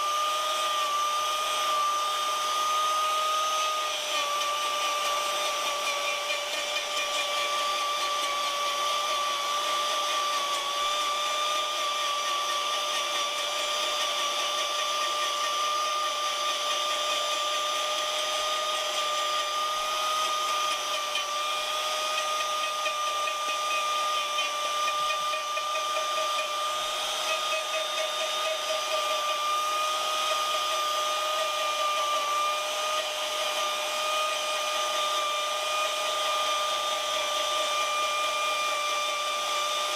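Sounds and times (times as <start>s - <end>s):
power-carving tool motor whining: 0.0s - 39.9s.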